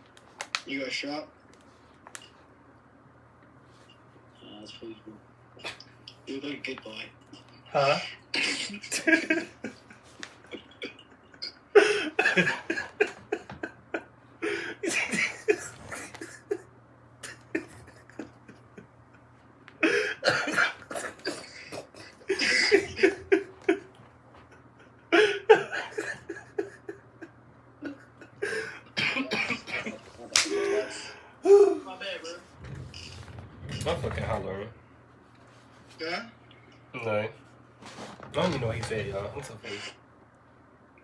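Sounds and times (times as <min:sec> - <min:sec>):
faint low steady hum: 0:00.0 - 0:41.0.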